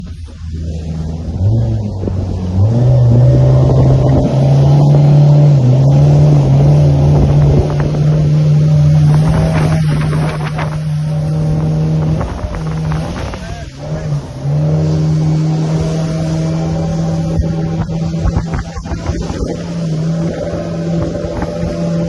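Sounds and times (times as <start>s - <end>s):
motorboat engine picking up speed: 0.0s - 22.0s.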